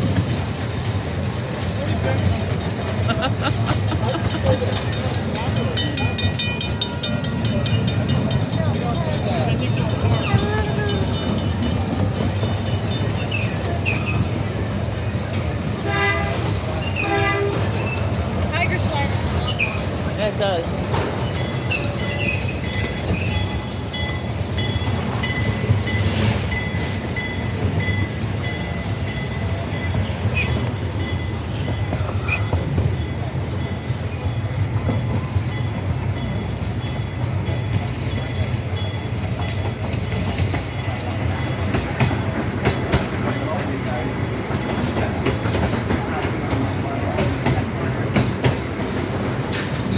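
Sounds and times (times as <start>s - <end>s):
amusement park train rumbling: 0.0s - 49.9s
wheels clicking over rail joints: 0.0s - 49.9s.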